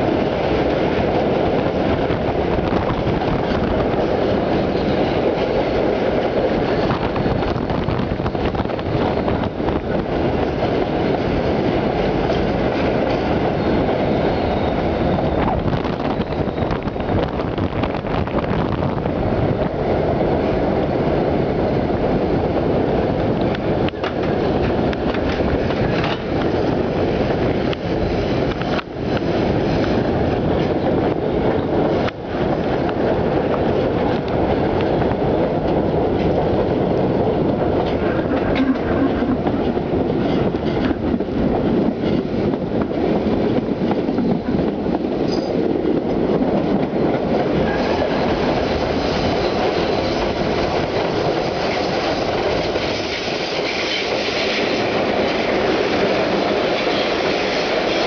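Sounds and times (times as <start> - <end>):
wheels rumbling on rail: 0.0 - 58.0.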